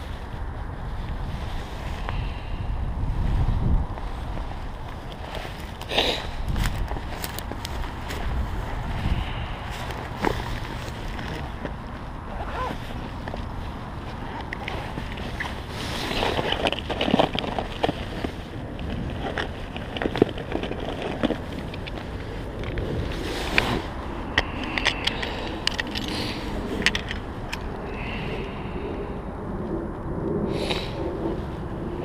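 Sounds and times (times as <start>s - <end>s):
rustling and clicks of handling gear: 0.0s - 32.0s
wind buffeting microphone: 0.0s - 32.0s.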